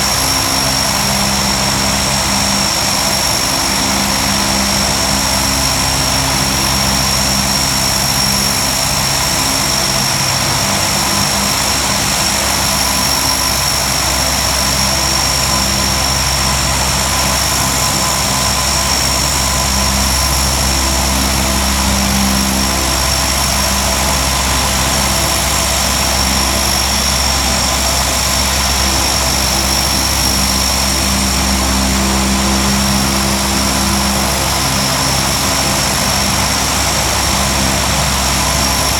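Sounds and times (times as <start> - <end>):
propeller drone: 0.0 - 38.9
turbine whine: 0.0 - 38.9.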